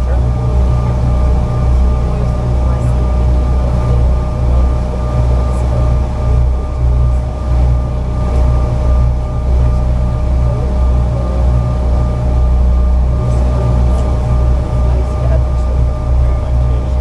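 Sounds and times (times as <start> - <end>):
aircraft cabin rumble: 0.0 - 17.0
jet engine whine: 0.0 - 17.0.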